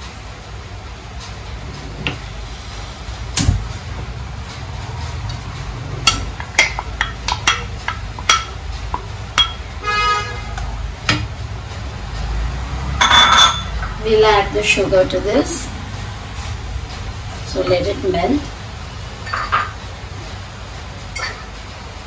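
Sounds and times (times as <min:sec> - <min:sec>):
steady low rumble: 0:00.0 - 0:13.0, 0:13.6 - 0:22.0.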